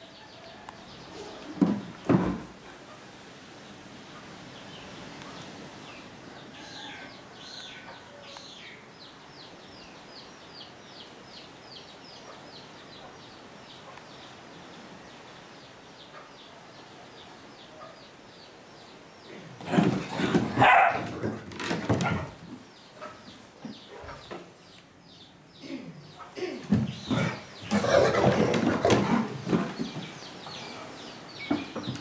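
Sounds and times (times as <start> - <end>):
bird chirping: 3.6 - 32.0.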